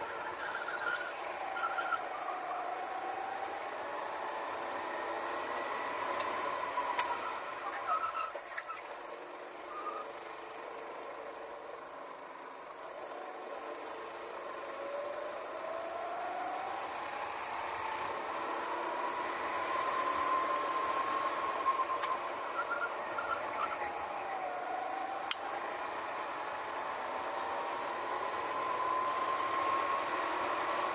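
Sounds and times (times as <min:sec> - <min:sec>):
go-kart engine: 0:00.0 - 0:30.9.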